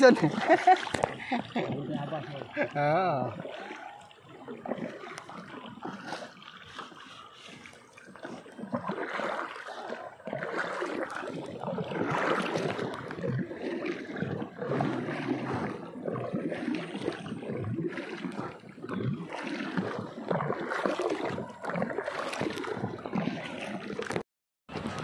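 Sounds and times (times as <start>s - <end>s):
paddle dipping into water: 0.0s - 25.0s
water splashing and gurgling: 0.0s - 25.0s.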